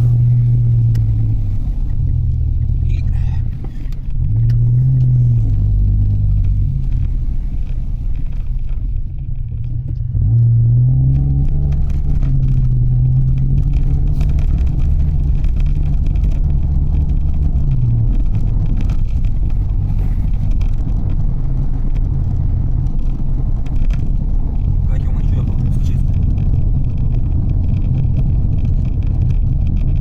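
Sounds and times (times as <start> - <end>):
van engine and road noise: 0.0 - 30.0.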